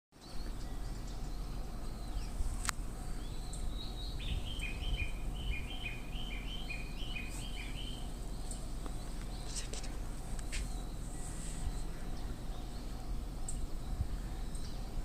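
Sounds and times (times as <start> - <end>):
low outdoor rumble: 0.2 - 15.0.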